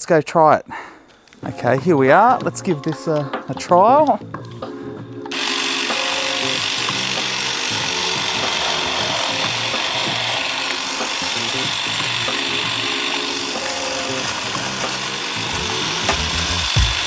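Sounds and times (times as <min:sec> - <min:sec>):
hedge trimmer cutting branches: 0:01.1 - 0:17.0.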